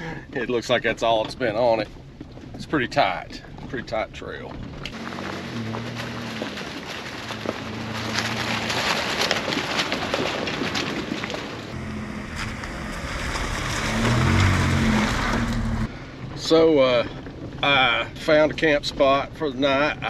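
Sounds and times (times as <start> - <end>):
pickup truck engine running: 0.0 - 19.5
tyres crackling over dirt and leaves: 0.4 - 20.0.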